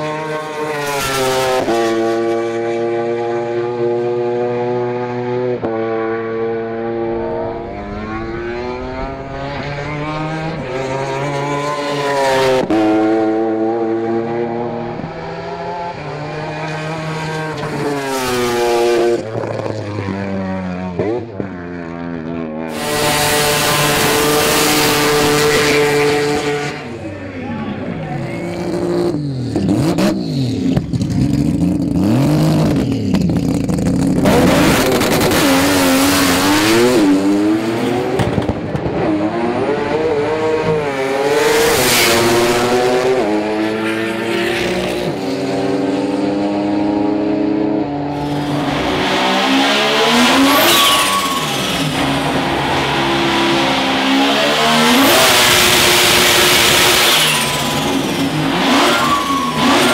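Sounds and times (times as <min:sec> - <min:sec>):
rotary engines revving: 0:00.0 - 0:59.9.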